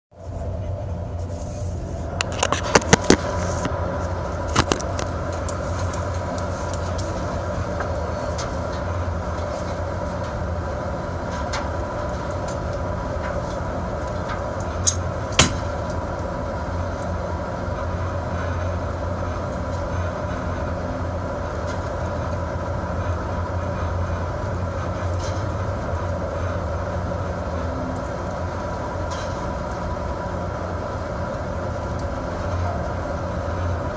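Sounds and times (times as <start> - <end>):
boat engine drone: 0.1 - 33.9.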